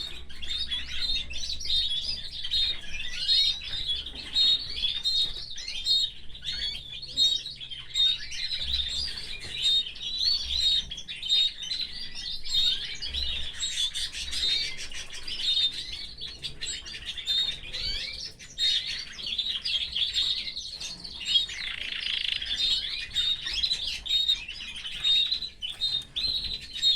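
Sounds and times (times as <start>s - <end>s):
canary singing trills and chirps: 0.0s - 26.9s.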